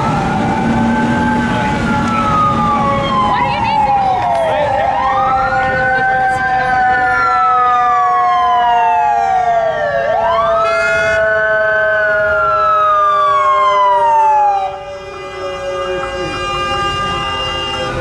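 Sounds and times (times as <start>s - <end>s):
fire engine siren wailing: 0.0s - 18.0s.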